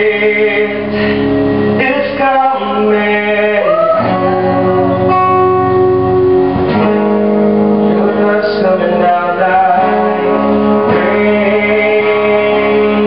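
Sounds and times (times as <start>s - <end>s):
person singing long held notes: 0.0s - 6.1s, 7.7s - 13.0s
guitar playing: 0.0s - 13.0s.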